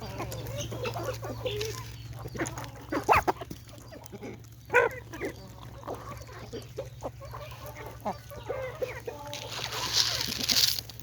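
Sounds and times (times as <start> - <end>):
chicken squawks: 0.0 - 10.6
chickens clucking: 0.0 - 11.0.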